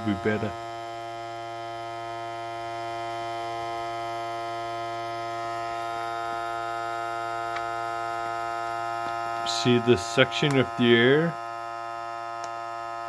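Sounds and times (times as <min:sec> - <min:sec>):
vacuum sealer pump humming: 0:00.0 - 0:13.0.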